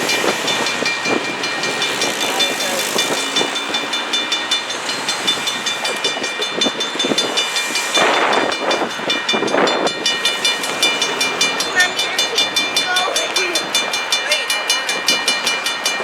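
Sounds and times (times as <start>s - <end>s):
train wheels clicking: 0.0s - 16.0s.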